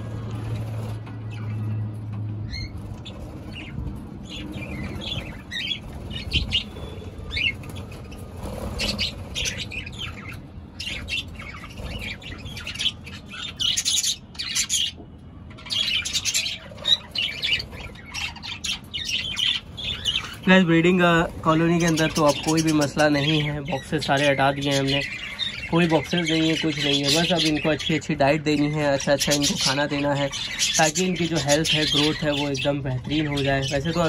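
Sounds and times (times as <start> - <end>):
flock of budgerigars chirping: 0.3 - 34.0.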